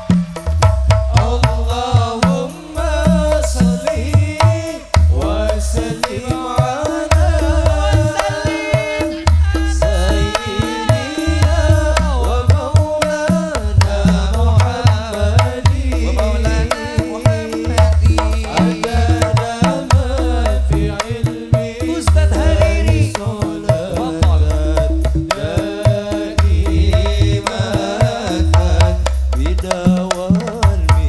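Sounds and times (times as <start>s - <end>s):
bending melody line: 0.0s - 29.8s
frame drums playing: 0.0s - 31.0s
goblet drum playing: 0.0s - 31.0s.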